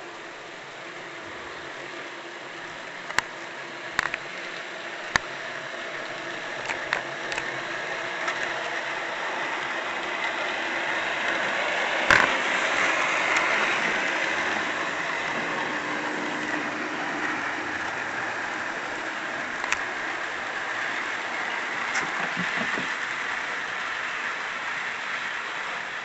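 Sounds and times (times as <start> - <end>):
model train motor whir: 0.0 - 26.0
wheels clicking over rails: 0.0 - 26.0.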